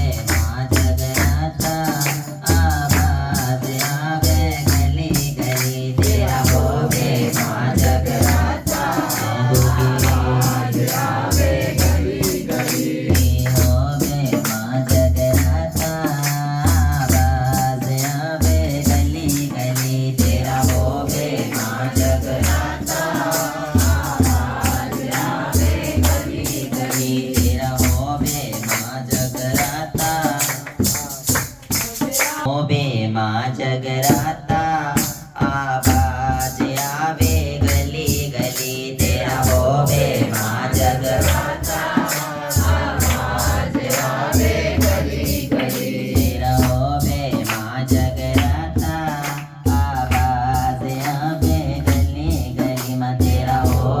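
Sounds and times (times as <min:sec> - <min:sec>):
drum beat: 0:00.0 - 0:32.5, 0:34.1 - 0:54.0
rattling percussion: 0:00.0 - 0:32.5, 0:34.1 - 0:54.0.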